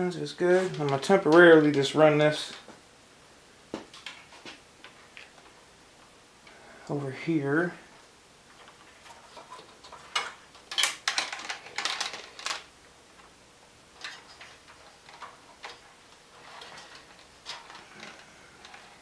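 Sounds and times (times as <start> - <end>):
wire clicking and rustling: 0.4 - 2.8, 3.7 - 6.6, 7.9 - 19.0.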